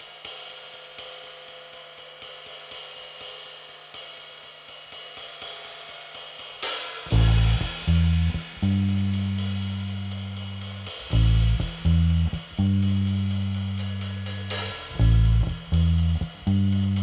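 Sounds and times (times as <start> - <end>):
cymbal wash: 0.0 - 17.0
hi-hat cymbal strokes: 0.0 - 17.0.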